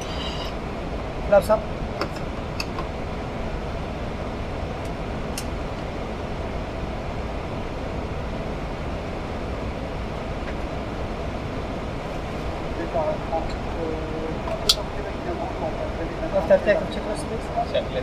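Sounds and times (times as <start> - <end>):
rushing flight-deck noise: 0.0 - 18.0.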